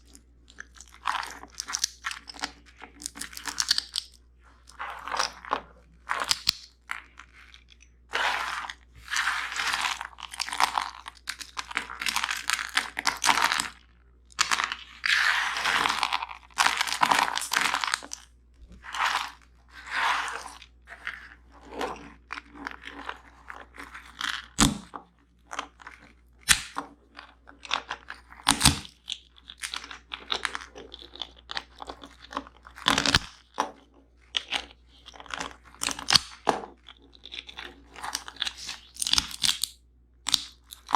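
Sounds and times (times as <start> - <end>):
nuts and seeds crunching: 0.0 - 33.6, 34.2 - 40.9.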